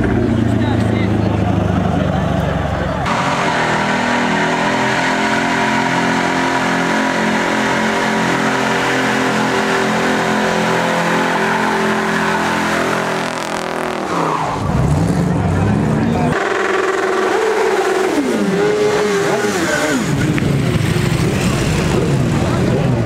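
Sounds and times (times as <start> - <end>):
truck engine at high revs: 0.0 - 23.0.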